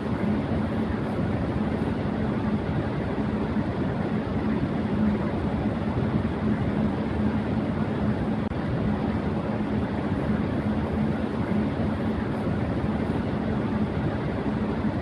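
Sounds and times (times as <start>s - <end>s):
electric fan air rushing: 0.0s - 15.0s
fan motor hum: 0.0s - 15.0s.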